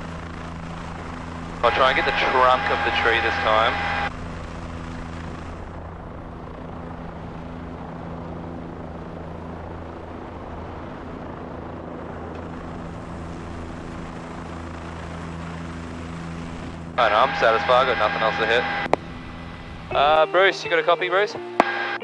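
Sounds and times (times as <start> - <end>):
helicopter drone: 0.0 - 22.0.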